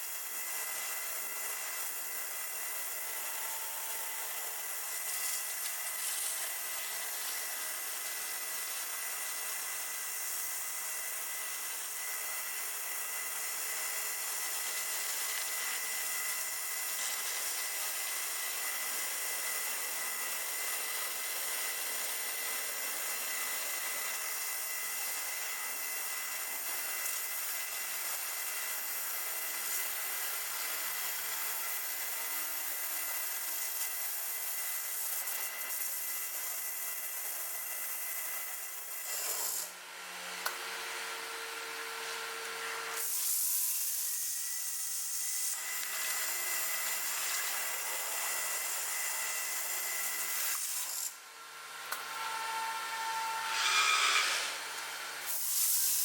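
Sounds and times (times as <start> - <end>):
stone cutting machine hiss and whine: 0.0 - 56.0.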